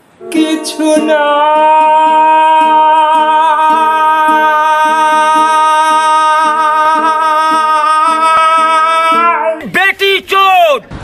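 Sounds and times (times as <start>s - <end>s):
man singing a held note: 0.2s - 9.7s
ukulele strumming: 0.2s - 9.7s.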